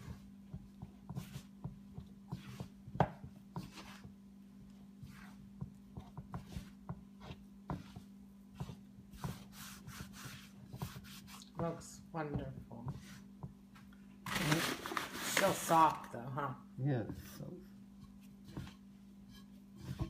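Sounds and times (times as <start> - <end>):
hands kneading dough: 0.0 - 16.0, 17.0 - 20.0.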